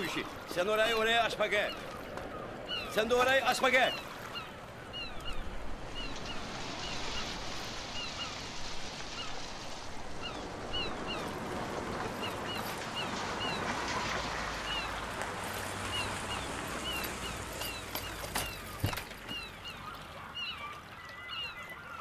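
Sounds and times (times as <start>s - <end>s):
gulls calling: 0.0s - 22.0s
rushing water: 0.0s - 22.0s
wind: 0.0s - 22.0s.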